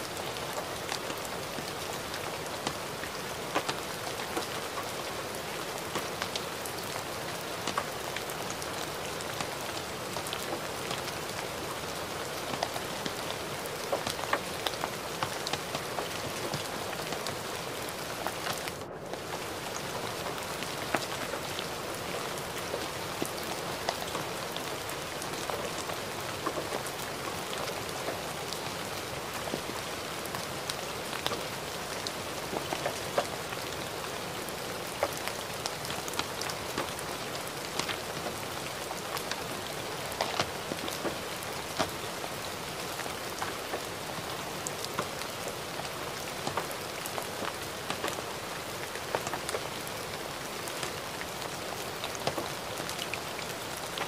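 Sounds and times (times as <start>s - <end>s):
gentle rain hissing: 0.0s - 54.0s
raindrop ticks: 0.2s - 54.0s.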